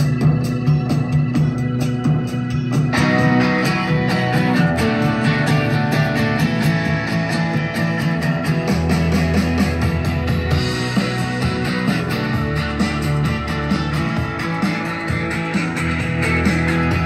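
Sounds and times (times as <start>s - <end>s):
guitar song over speakers: 0.0s - 17.0s.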